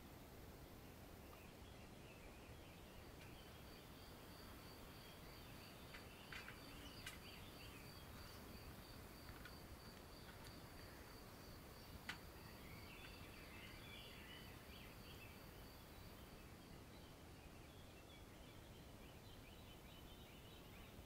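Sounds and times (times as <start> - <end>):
faint chirps: 0.8 - 21.0.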